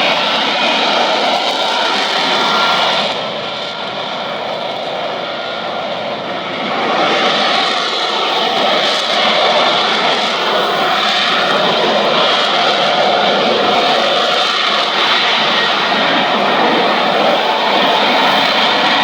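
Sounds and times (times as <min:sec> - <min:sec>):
loud jet engine: 0:00.0 - 0:19.0.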